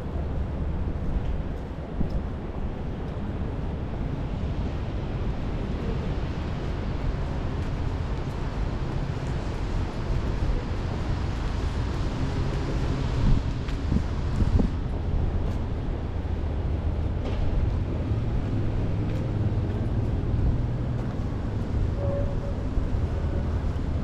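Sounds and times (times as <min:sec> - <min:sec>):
wind buffeting microphone: 0:00.0 - 0:24.0
steady rain: 0:00.1 - 0:24.0.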